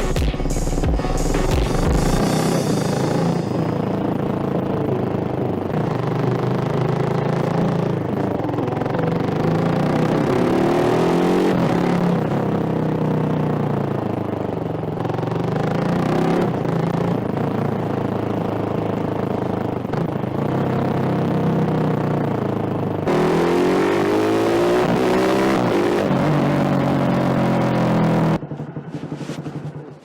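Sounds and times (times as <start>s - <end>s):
motorcycle revving: 0.0s - 30.0s.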